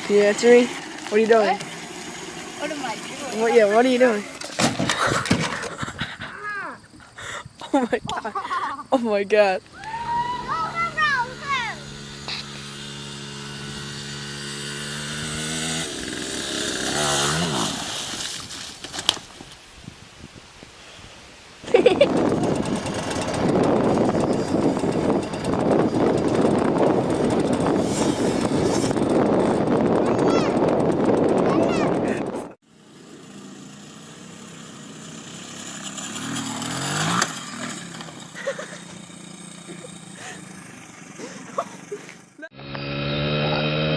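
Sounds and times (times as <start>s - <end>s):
motorcycle engine revving: 0.0s - 5.7s, 10.0s - 18.5s, 21.7s - 43.9s.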